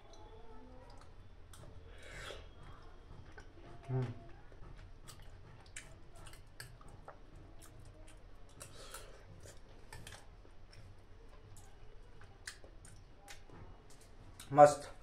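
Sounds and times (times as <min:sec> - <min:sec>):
person chewing: 0:00.9 - 0:14.5.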